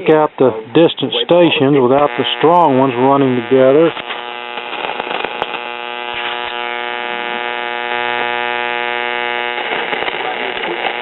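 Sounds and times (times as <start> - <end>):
radio static buzzing hum: 0.0 - 11.0.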